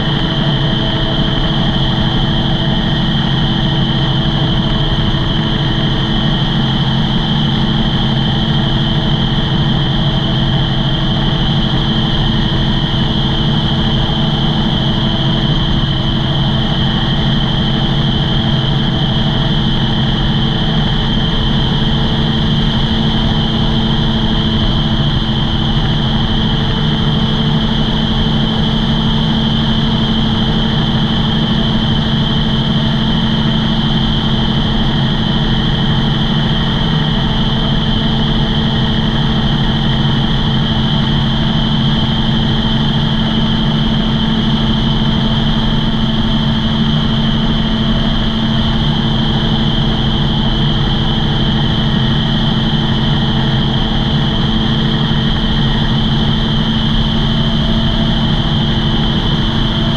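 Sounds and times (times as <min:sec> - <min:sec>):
gyrocopter engine and propeller drone: 0:00.0 - 0:59.9.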